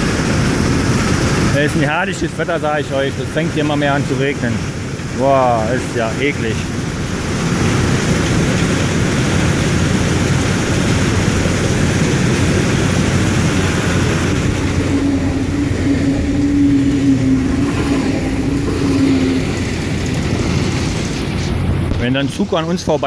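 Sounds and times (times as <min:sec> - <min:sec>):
steady hum: 0:00.0 - 0:23.0
train rumbling past: 0:00.0 - 0:23.0.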